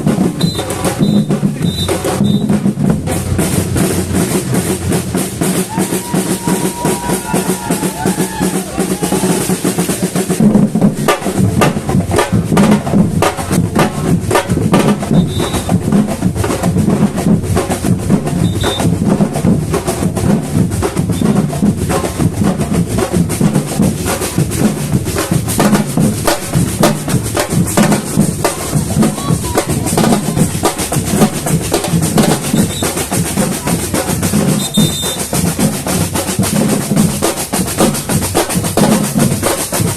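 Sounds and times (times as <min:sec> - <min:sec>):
samba percussion drumming: 0:00.0 - 0:39.9.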